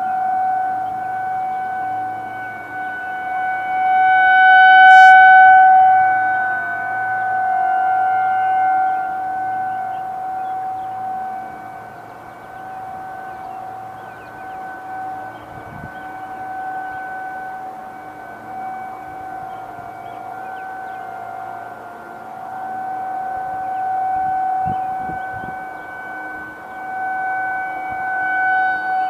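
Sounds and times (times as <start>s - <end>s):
outdoor warning siren steady tone: 0.0s - 29.0s.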